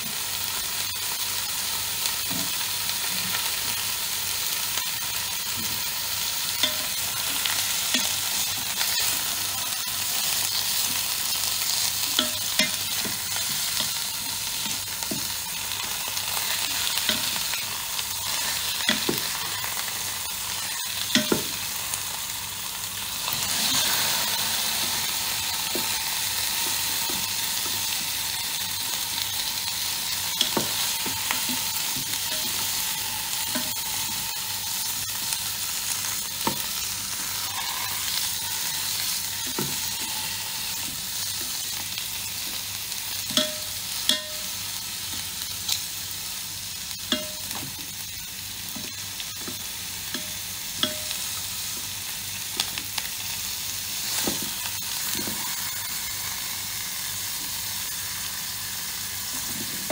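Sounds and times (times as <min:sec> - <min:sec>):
meat sizzling in a pot: 0:00.0 - 0:59.9.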